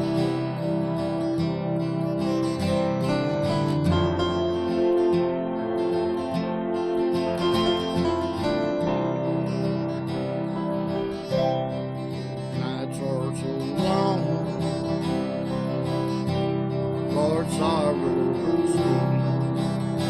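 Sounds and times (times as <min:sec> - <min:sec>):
acoustic guitar strumming: 0:00.0 - 0:20.0
wavering melody line: 0:00.0 - 0:20.0.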